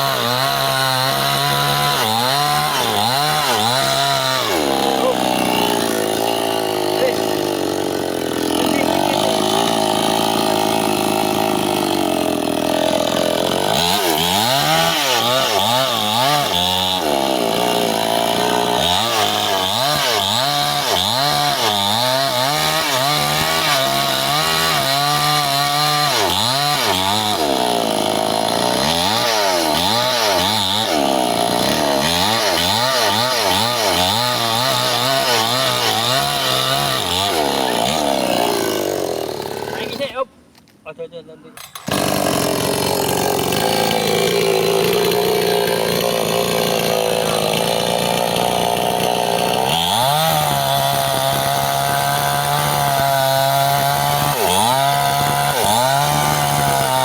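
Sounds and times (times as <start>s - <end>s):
chainsaw cutting wood: 0.0s - 40.2s, 41.6s - 57.0s.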